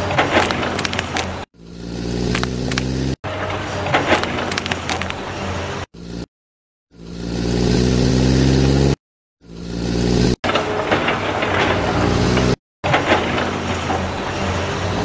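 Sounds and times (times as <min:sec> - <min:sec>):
heavy engine running: 0:00.0 - 0:06.3, 0:06.9 - 0:15.0.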